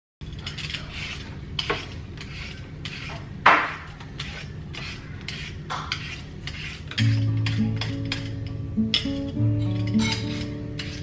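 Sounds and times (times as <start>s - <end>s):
peeler scraping potato skin: 0.2s - 11.0s.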